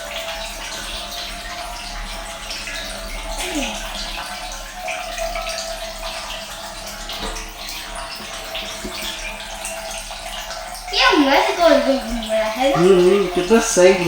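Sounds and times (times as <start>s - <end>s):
propeller churning water: 0.0s - 14.0s.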